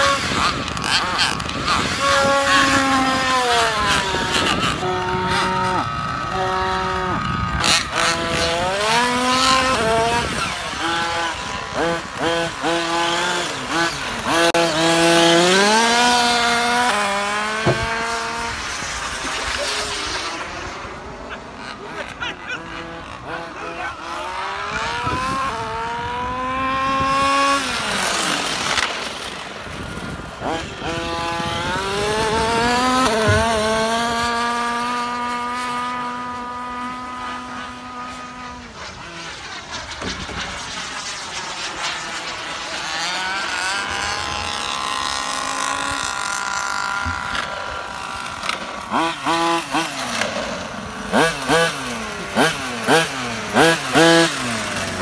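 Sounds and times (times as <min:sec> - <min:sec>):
small two-stroke engine revving: 0:00.0 - 0:55.0.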